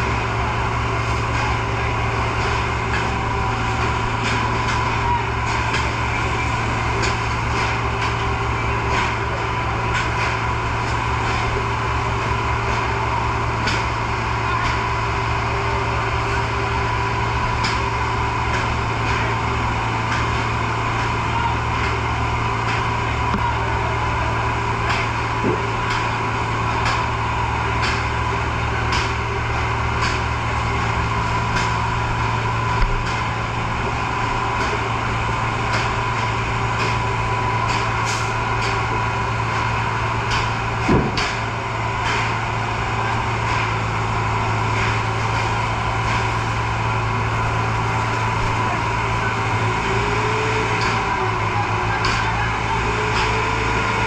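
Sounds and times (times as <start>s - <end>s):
fire truck engine drone: 0.0s - 54.0s.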